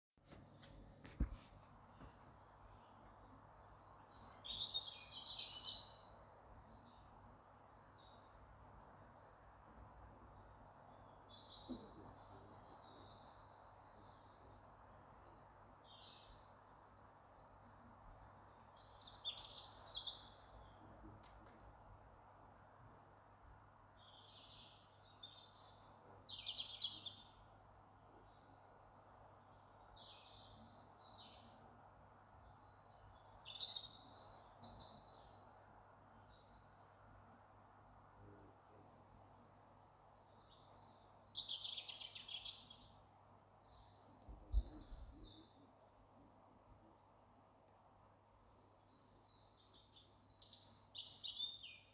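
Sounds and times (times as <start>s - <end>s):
faint background hiss: 0.2s - 51.9s
songbirds singing: 0.3s - 51.9s.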